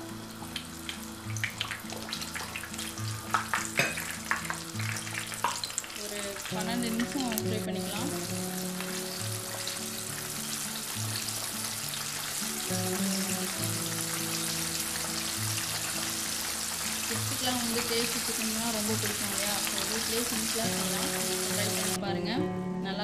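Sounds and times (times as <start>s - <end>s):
chicken deep-frying in oil: 0.0s - 22.0s
soft background music: 0.0s - 23.0s.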